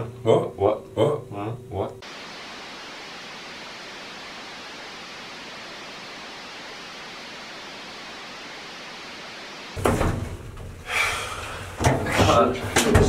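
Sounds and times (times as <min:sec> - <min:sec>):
steady static hiss: 0:00.0 - 0:13.0.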